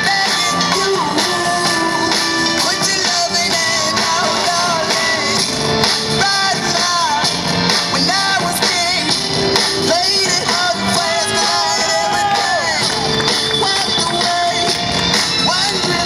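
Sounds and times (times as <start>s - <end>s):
loud song with instrumental backing: 0.0s - 16.0s.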